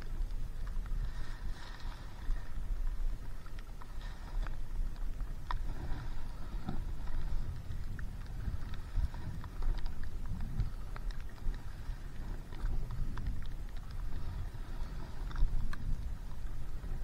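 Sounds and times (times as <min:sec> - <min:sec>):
paddle splashes and drips: 0:00.0 - 0:17.0
wind rumble on microphone: 0:00.0 - 0:17.0.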